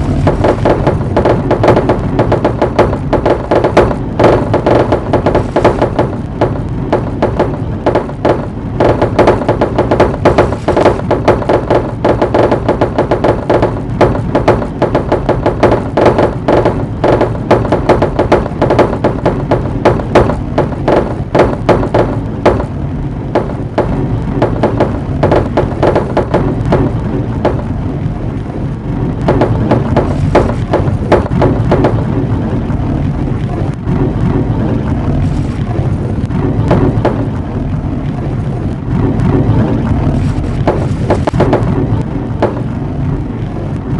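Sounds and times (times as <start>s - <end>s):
marbles rolling rumble: 0.0s - 43.9s.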